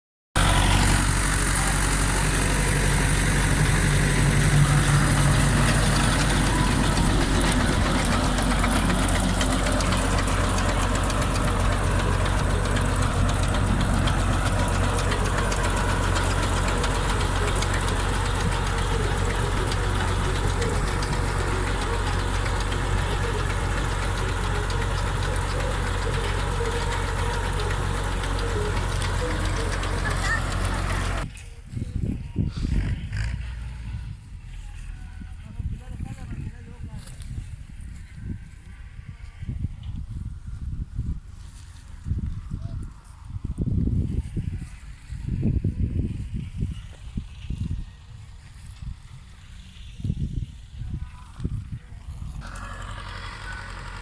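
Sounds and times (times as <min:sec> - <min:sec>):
tractor engine humming: 0:00.4 - 0:54.0.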